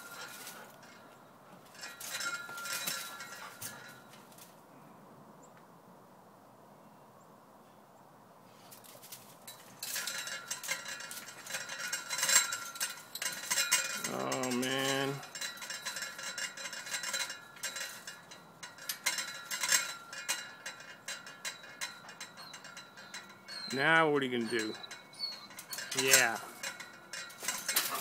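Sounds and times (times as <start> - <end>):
chain-link gate rattling: 0.0 - 4.6, 8.7 - 28.0.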